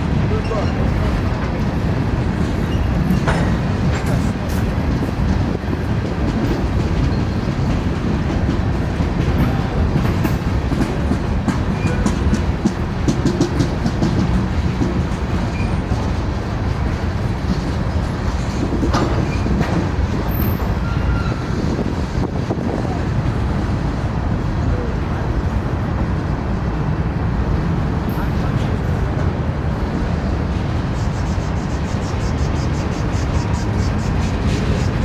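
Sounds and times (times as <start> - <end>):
wheels clicking over rail joints: 0.0 - 24.5, 27.5 - 35.0
train rumbling past: 0.0 - 35.0.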